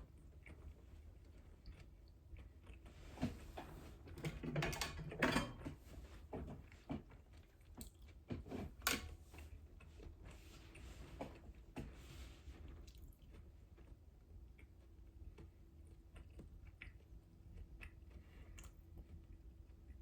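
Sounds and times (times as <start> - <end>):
chewing and biting food: 0.0 - 3.5, 6.4 - 11.8, 12.6 - 20.0.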